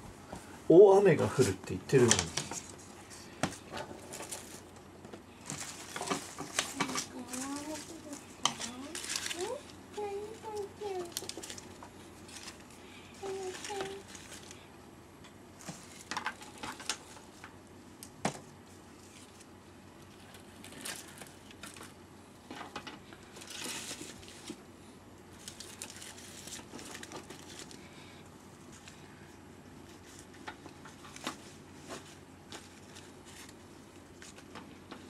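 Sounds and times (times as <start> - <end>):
plastic stems rustling and crinkling: 1.1 - 14.7, 15.5 - 35.0.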